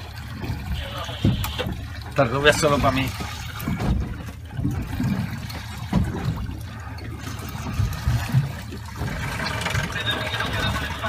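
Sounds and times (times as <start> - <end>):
water splashing against boat: 0.0 - 11.0.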